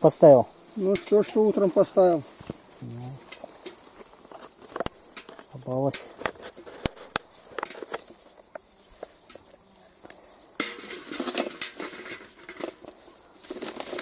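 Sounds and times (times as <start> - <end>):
rustling grass and small clicks: 0.0 - 14.0.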